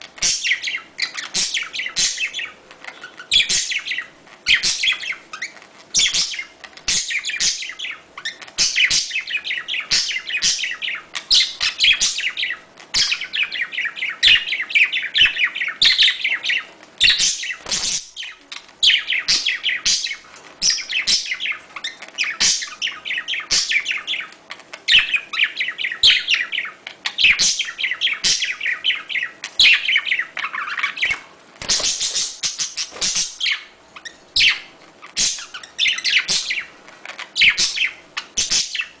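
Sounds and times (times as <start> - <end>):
budgerigars chattering: 0.2 - 39.0.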